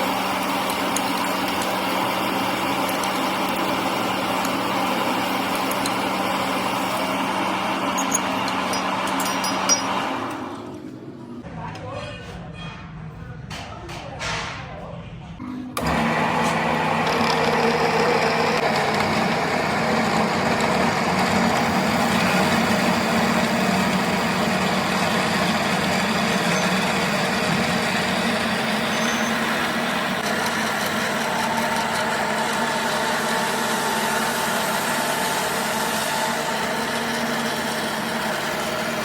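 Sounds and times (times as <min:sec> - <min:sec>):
machine humming: 0:00.0 - 0:11.4, 0:15.4 - 0:39.0.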